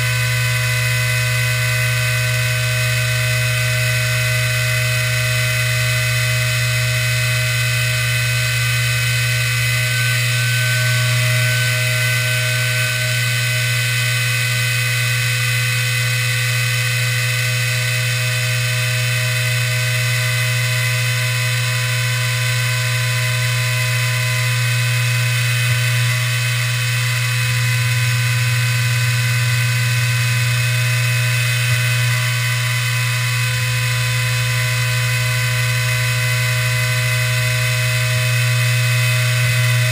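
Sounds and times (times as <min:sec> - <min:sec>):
cnc router spindle whining: 0:00.0 - 0:39.9
low hum: 0:00.0 - 0:39.9.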